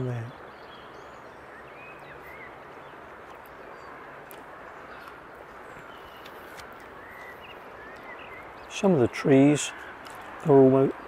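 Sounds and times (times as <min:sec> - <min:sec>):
steady woodland hiss: 0:00.0 - 0:11.0.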